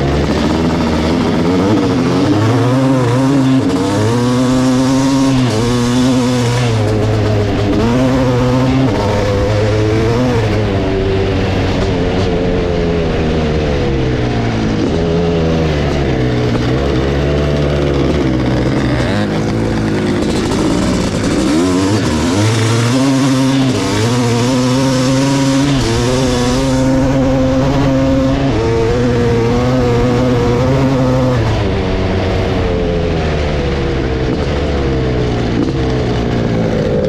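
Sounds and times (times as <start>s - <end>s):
two-stroke engine revving: 0.0s - 37.0s.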